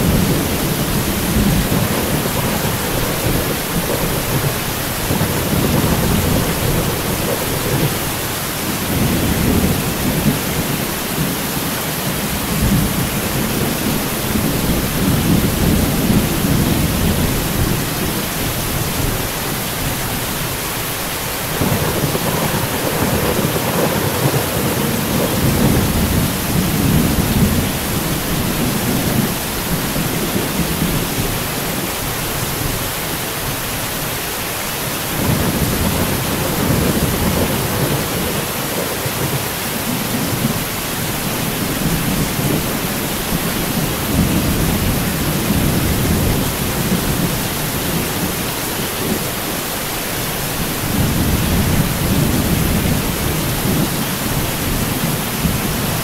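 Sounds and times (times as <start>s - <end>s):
thunder rumbling: 0.0s - 19.3s, 21.4s - 31.8s, 35.0s - 49.4s, 50.5s - 56.0s
heavy rain hissing: 0.0s - 56.0s.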